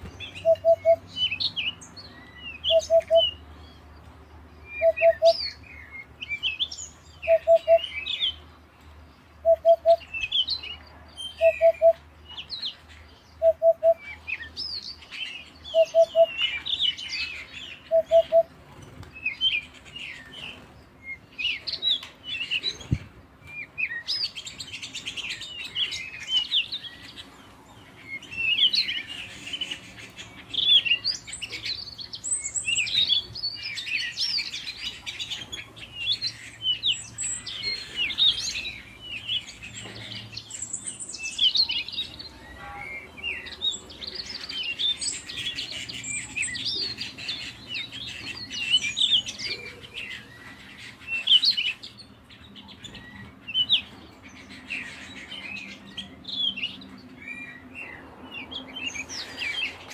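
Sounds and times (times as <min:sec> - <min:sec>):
canaries chirping and twittering: 0:09.7 - 0:59.9.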